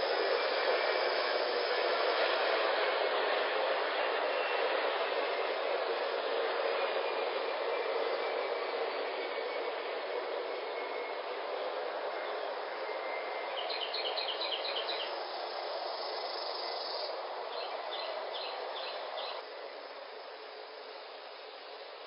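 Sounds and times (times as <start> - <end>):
hiss-like background noise: 0.0 - 22.0.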